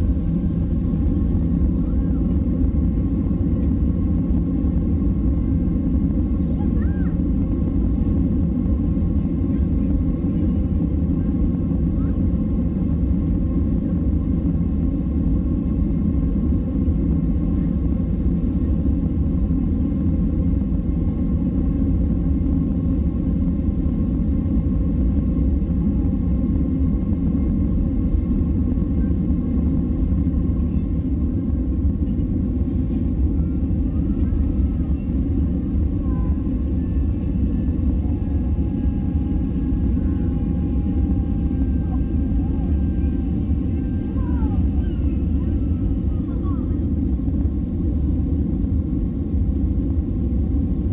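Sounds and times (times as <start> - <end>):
jet engines rumbling: 0.0 - 50.9.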